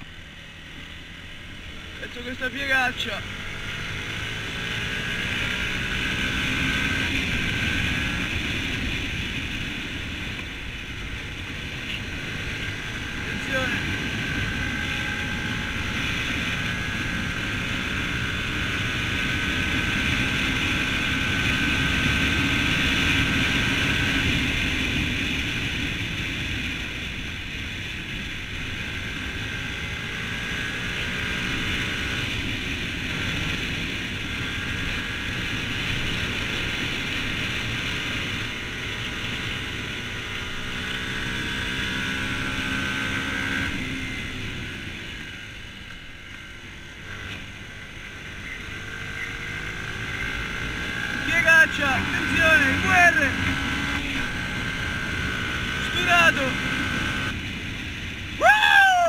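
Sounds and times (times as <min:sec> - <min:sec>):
motorbike engine revving: 0:00.0 - 0:57.7.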